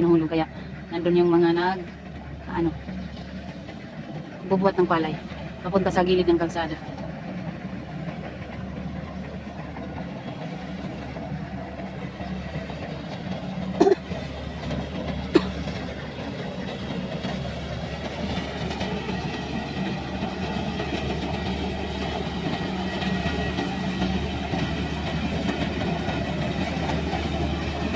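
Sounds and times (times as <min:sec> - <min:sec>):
combine harvester engine drone: 0:00.0 - 0:27.9.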